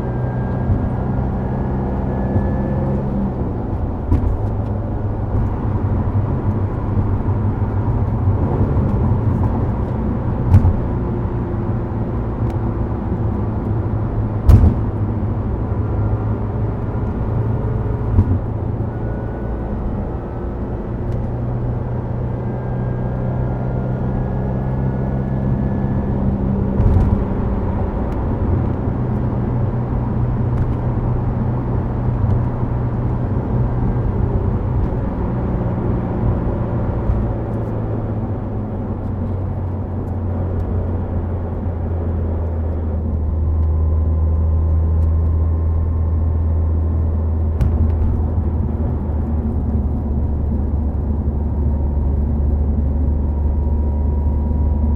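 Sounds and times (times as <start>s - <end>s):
car engine droning at cruise: 0.0s - 54.9s
tyre and road noise: 0.0s - 54.9s.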